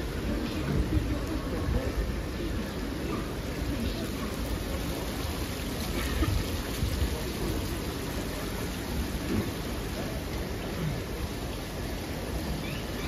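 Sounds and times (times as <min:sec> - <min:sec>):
street ambience hiss: 0:00.0 - 0:13.0.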